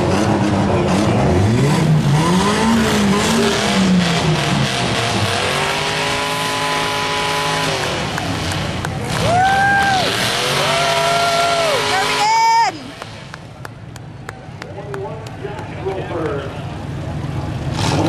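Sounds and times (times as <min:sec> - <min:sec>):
tires spinning in mud: 0:00.0 - 0:14.2, 0:15.4 - 0:18.0
car engines revving hard: 0:00.0 - 0:18.0.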